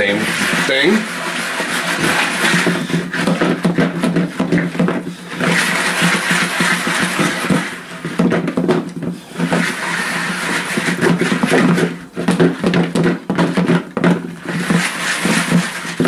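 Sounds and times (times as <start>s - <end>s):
food shaken in plastic container: 0.0s - 8.5s, 9.3s - 16.0s.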